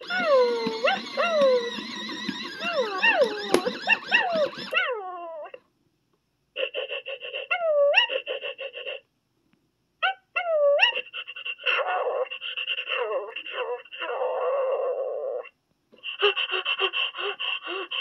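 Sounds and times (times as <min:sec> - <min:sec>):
toy puppy whimpering and whining: 0:00.0 - 0:05.6, 0:06.6 - 0:09.0, 0:10.0 - 0:18.0.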